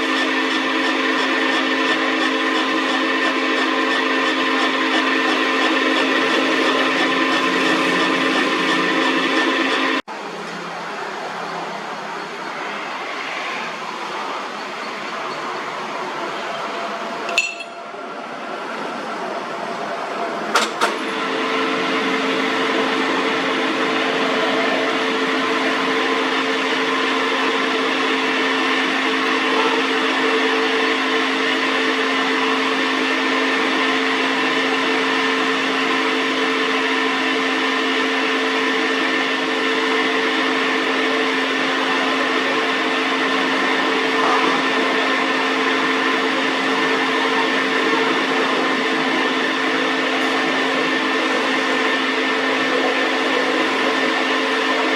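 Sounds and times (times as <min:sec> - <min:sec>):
metal lathe running: 0:00.0 - 0:54.9.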